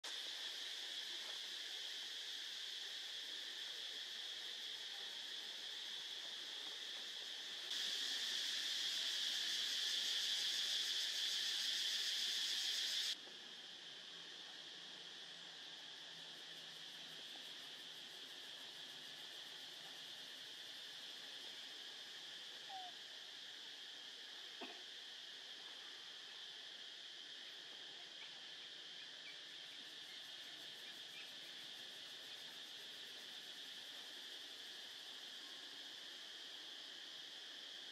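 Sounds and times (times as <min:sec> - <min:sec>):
insect chorus trilling: 0:00.0 - 0:37.9.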